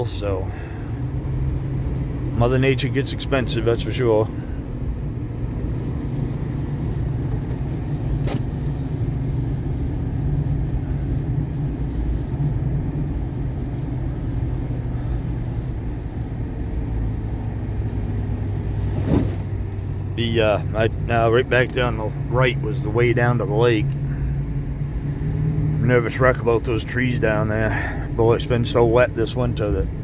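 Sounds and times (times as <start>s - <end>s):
truck engine and road noise: 0.0s - 30.0s.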